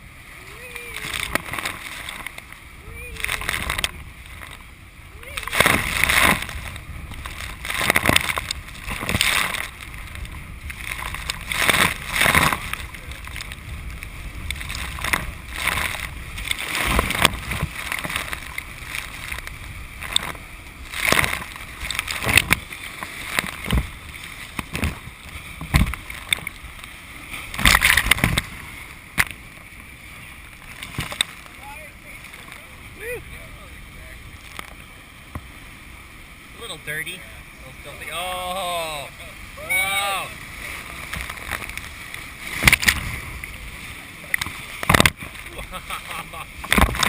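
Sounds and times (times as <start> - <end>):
rushing whitewater rapids: 0.0 - 47.0
water splashing and surging: 0.0 - 47.0.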